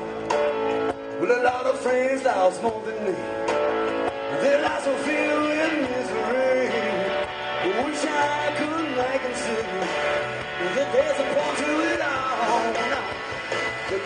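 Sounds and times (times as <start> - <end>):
bass guitar: 0.0 - 14.0
drum kit: 0.0 - 14.0
electric guitar lead: 0.0 - 14.0.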